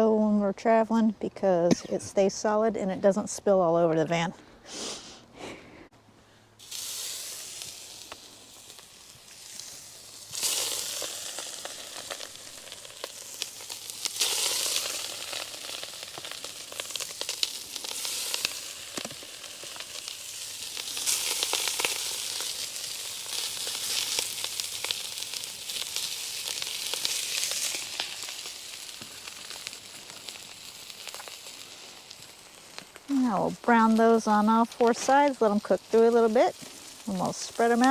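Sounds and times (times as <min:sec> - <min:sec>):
food sizzling on a griddle: 0:06.6 - 0:37.9.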